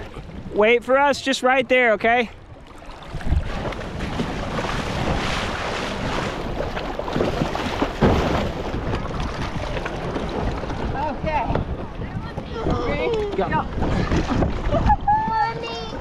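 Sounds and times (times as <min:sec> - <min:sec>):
water splashing against kayak: 0:00.0 - 0:16.0
wind on microphone: 0:02.8 - 0:16.0.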